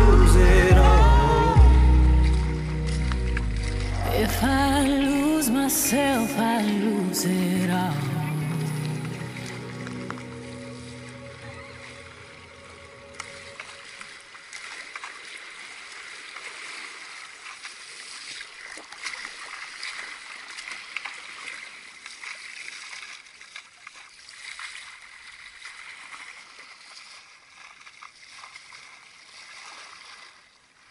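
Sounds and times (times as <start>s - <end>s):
water splashing against a hull: 1.8s - 4.9s, 7.4s - 30.9s.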